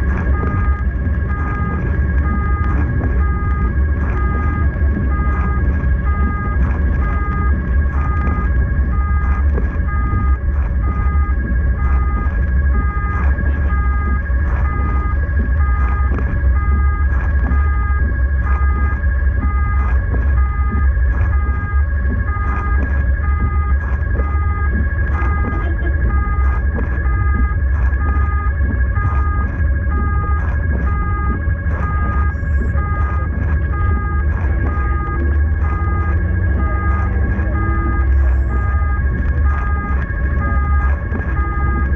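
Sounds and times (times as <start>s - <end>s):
two-tone siren: 0.0s - 41.9s
vehicle engine and road noise: 0.0s - 41.9s.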